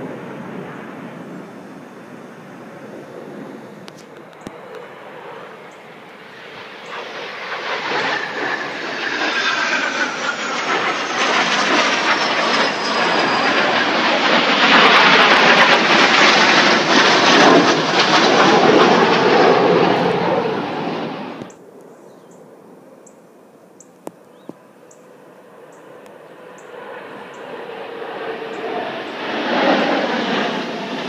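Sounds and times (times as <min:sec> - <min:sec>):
falling jet whine: 0:00.0 - 0:21.6, 0:25.1 - 0:31.0
jet aircraft passing overhead: 0:00.0 - 0:23.0, 0:24.2 - 0:31.0.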